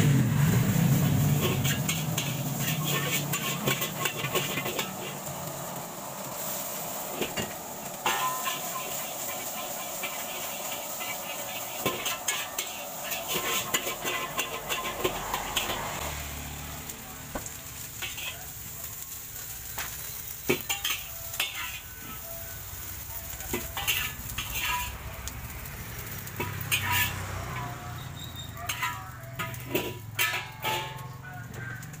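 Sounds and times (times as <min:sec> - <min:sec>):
fried rice sizzling: 0:00.0 - 0:32.0
metal spatula scraping a wok: 0:00.4 - 0:16.2, 0:17.7 - 0:25.1, 0:26.2 - 0:31.6.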